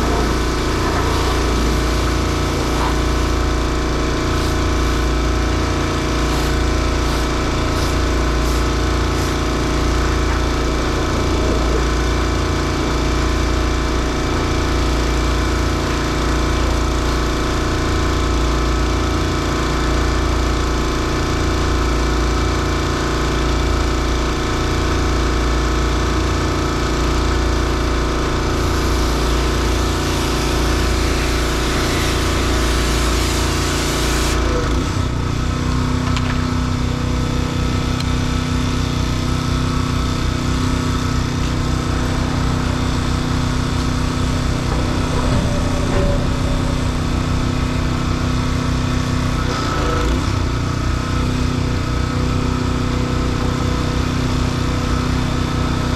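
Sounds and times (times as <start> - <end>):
engine running with low throb: 0.0 - 55.9.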